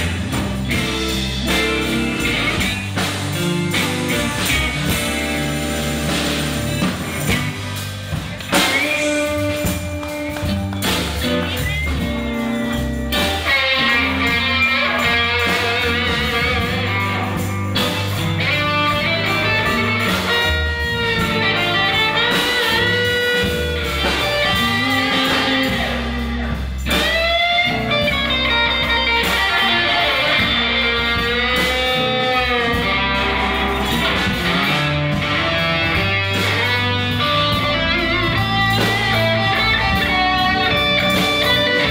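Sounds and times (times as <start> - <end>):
bass and drums: 0.0 - 41.9
electric guitar lead: 0.0 - 41.9.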